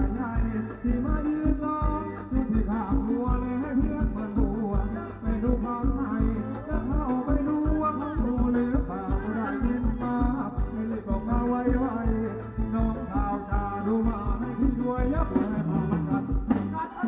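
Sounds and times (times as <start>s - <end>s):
drum beat: 0.0s - 17.0s
live band dance music: 0.0s - 17.0s
person singing: 0.0s - 17.0s.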